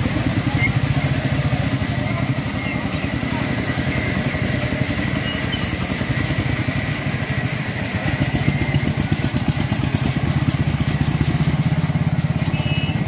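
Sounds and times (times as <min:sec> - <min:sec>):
small engine puttering: 0:00.0 - 0:13.0.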